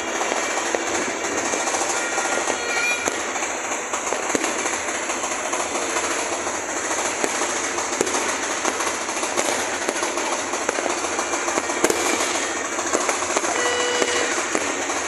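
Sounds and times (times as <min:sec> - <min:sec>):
firecracker pops: 0:00.0 - 0:15.0
fireworks crackling: 0:00.0 - 0:15.0.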